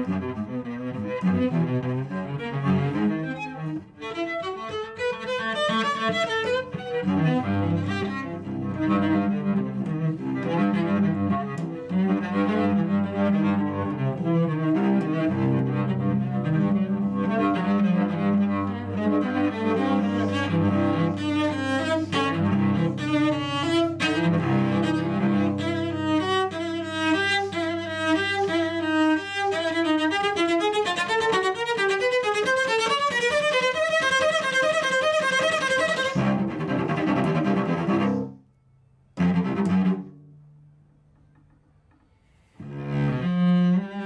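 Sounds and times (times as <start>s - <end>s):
solo cello bowed: 0.0s - 44.0s.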